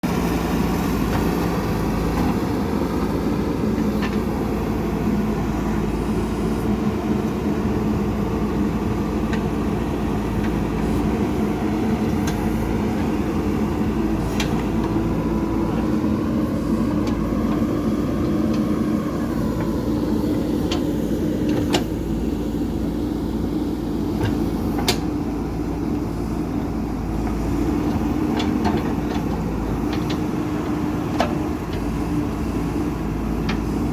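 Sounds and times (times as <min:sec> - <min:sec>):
backhoe diesel engine running: 0:00.0 - 0:33.9.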